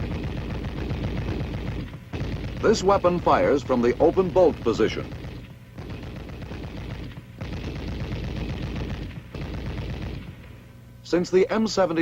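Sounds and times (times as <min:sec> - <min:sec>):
machine gun firing bursts: 0:00.0 - 0:10.6.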